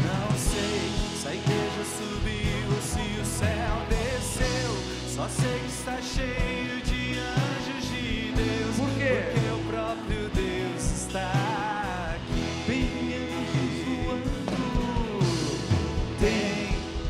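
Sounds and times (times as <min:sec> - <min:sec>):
worship band playing: 0:00.0 - 0:17.0.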